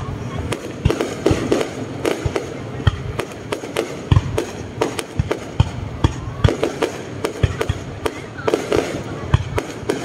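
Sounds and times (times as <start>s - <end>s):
fireworks booming and cracking: 0.0s - 10.0s.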